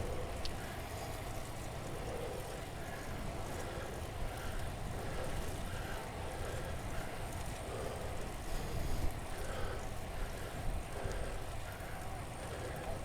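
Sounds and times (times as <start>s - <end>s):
bicycle riding rumble: 0.0s - 13.0s
hard breathing: 1.9s - 13.0s.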